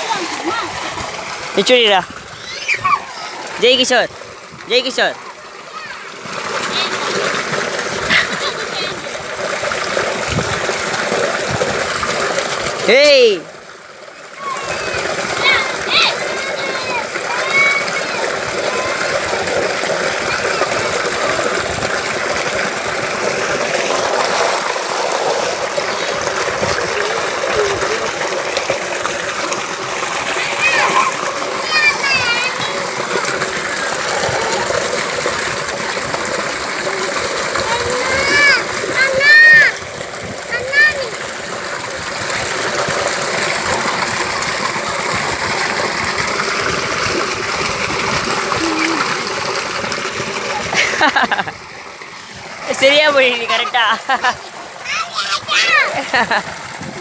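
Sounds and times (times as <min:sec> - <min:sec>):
water splashing from a pipe: 0:00.0 - 0:57.0.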